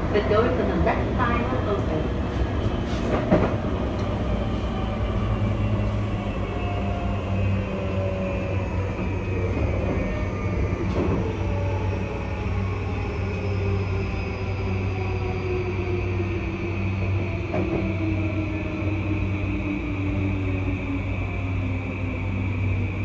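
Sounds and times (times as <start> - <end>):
train hum and wheel rumble: 0.0 - 23.0.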